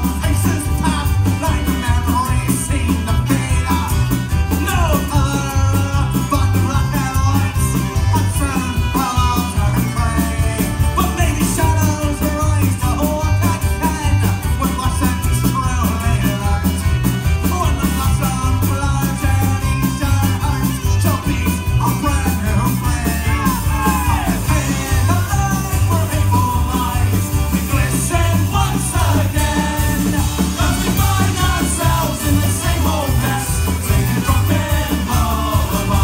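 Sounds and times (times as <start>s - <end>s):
accordion: 0.0s - 36.0s
acoustic guitar: 0.0s - 36.0s
drums: 0.0s - 36.0s.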